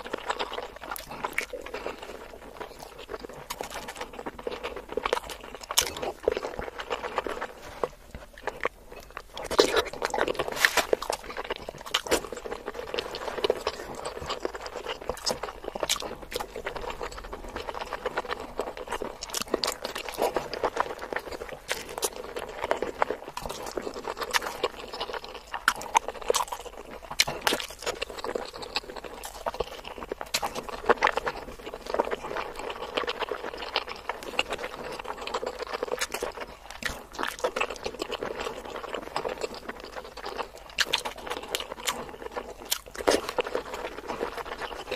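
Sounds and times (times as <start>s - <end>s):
wet chewing and mouth sounds: 0.0s - 44.9s.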